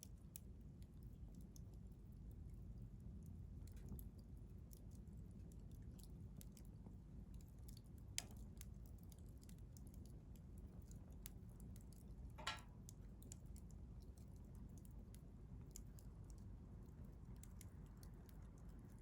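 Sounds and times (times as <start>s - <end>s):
low rumble of flames: 0.0s - 19.0s.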